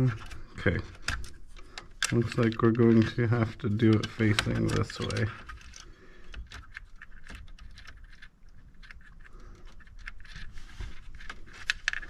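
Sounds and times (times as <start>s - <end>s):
plastic and metal parts clicking: 0.0s - 12.0s.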